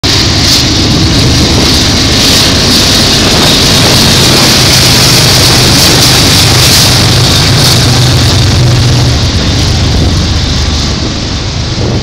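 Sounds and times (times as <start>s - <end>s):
diesel locomotives passing: 0.0s - 12.0s.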